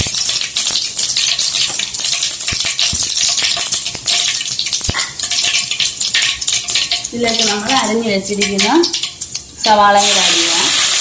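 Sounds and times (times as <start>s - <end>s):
seeds sizzling in hot oil: 0.0s - 11.0s.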